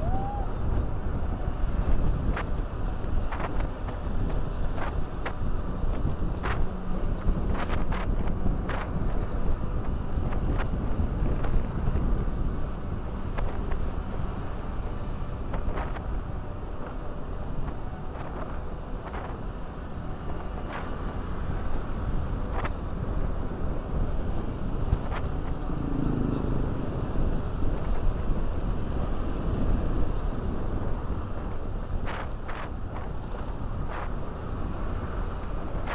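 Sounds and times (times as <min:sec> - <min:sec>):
heavy wind noise on microphone: 0:00.0 - 0:35.9.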